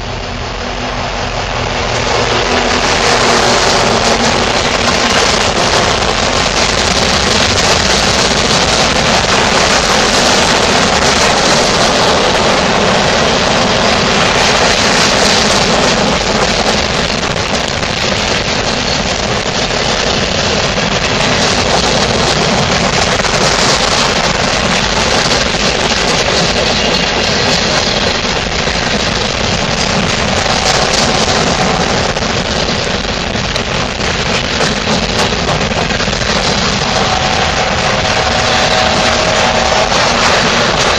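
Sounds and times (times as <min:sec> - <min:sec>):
train wheels rolling on rails: 0:00.0 - 0:40.9.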